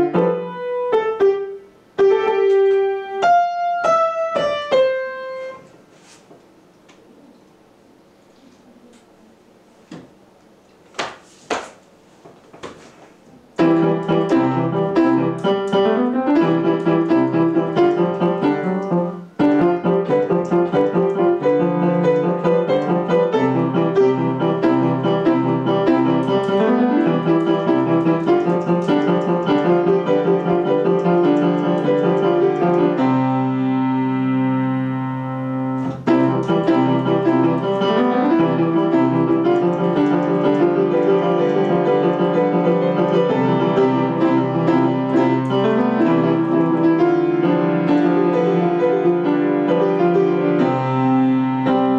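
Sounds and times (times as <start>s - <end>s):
upright piano playing: 0.0s - 5.7s, 13.6s - 51.9s.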